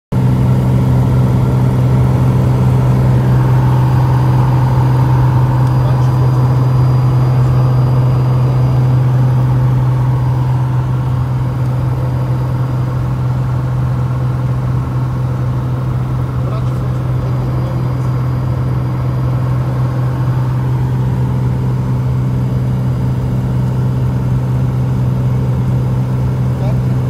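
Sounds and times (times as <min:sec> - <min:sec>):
aircraft engine and propeller drone: 0:00.1 - 0:27.0.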